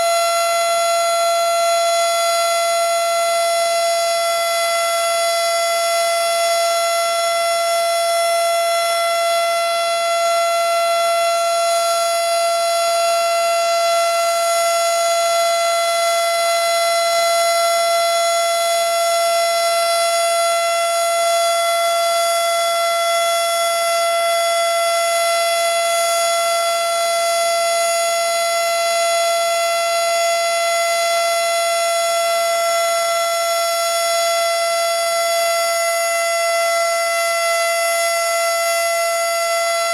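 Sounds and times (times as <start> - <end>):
steady high-pitched siren: 0.0 - 39.9.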